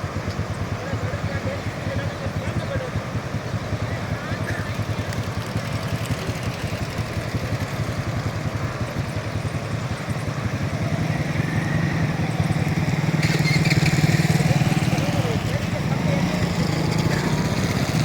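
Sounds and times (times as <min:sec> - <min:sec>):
engine running with fast pulse: 0:00.0 - 0:18.0.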